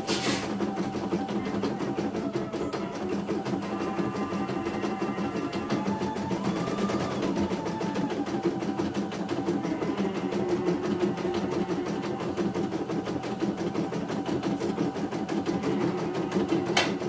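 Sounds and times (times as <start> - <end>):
steady motor hum: 0.0 - 17.0.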